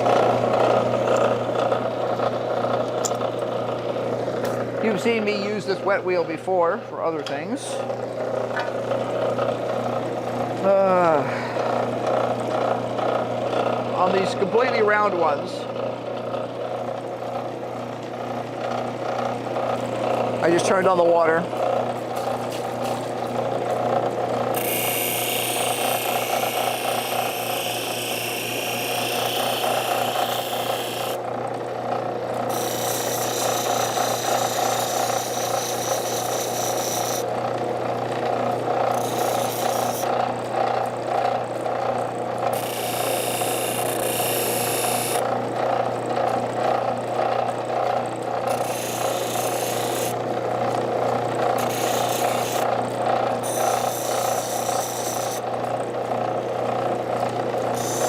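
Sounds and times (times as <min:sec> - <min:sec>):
grinding wheel motor hum: 0:00.0 - 0:58.0.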